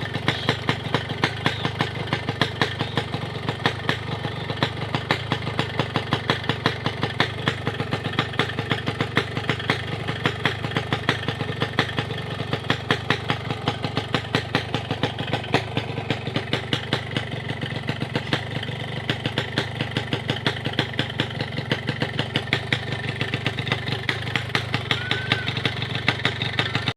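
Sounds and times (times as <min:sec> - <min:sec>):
motorcycle idling: 0:00.0 - 0:26.9.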